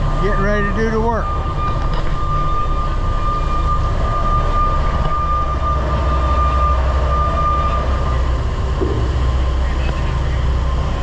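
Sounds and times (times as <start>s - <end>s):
boat engines rumbling: 0.0s - 11.0s
thin steady whine: 0.0s - 11.0s.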